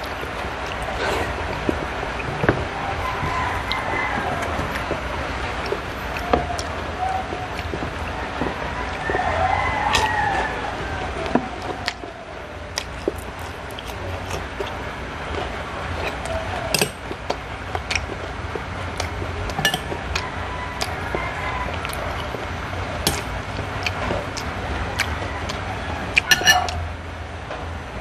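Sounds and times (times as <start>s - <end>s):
crunchy chewing and mouth smacks: 0.0s - 26.9s
low steady hum: 0.0s - 28.0s.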